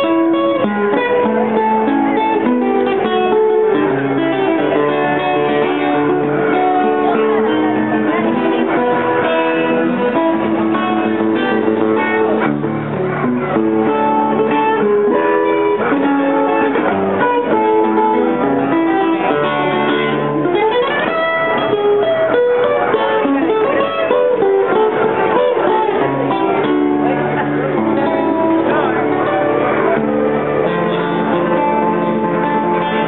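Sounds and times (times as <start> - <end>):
acoustic guitar music: 0.0 - 33.0.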